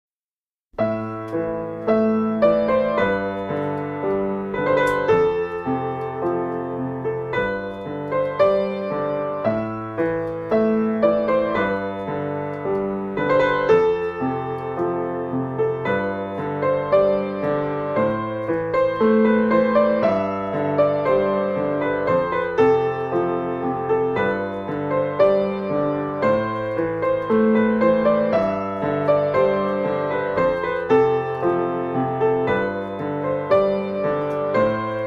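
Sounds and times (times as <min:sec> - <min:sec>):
keyboard piano music: 0:00.7 - 0:35.0.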